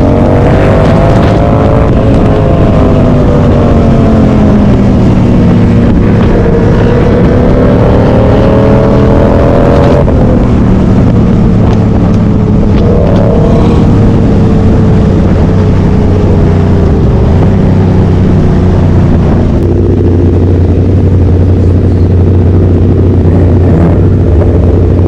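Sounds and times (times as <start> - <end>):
loud vehicle engine running: 0.0 - 25.0.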